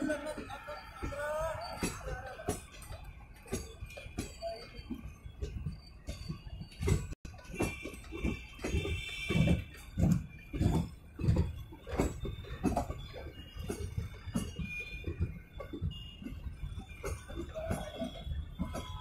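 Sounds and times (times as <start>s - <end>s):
train wheels knocking over rail joints: 0.0s - 19.0s.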